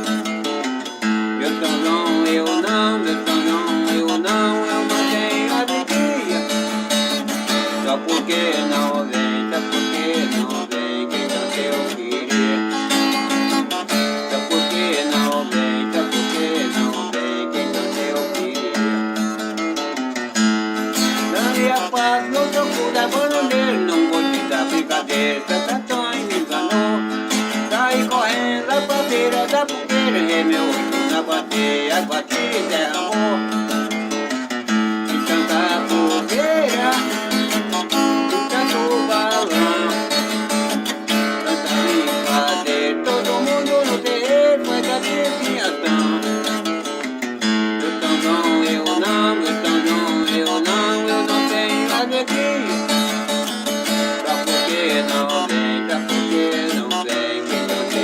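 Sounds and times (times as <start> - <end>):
plucked string instrumental music: 0.0 - 58.0.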